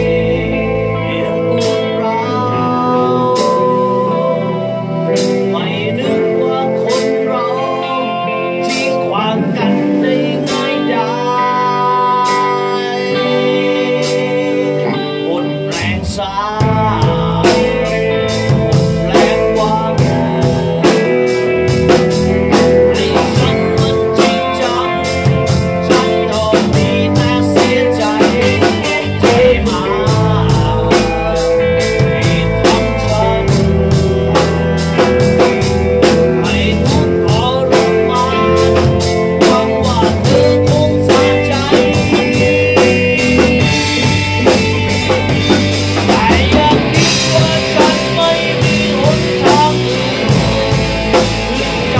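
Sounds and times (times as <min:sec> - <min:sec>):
drum kit: 0:00.0 - 0:51.9
guitar: 0:00.0 - 0:51.9
man singing into a microphone: 0:00.0 - 0:51.9.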